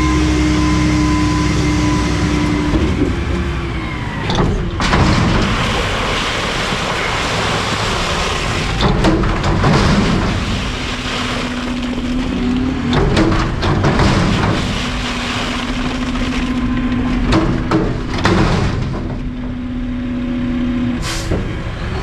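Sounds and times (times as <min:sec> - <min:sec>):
hydraulic whine: 0:00.0 - 0:18.0
garbage truck engine and hydraulics: 0:00.0 - 0:22.0.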